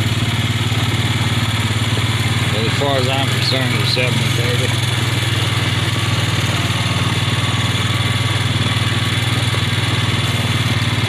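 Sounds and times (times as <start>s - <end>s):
farm vehicle engine running: 0.0s - 11.0s.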